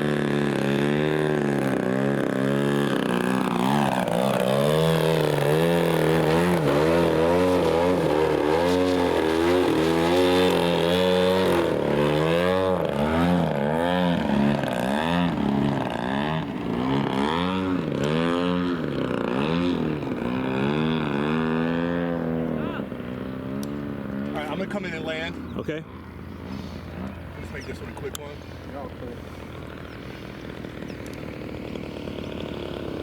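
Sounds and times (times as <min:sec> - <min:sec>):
model aircraft engine: 0:00.0 - 0:33.0.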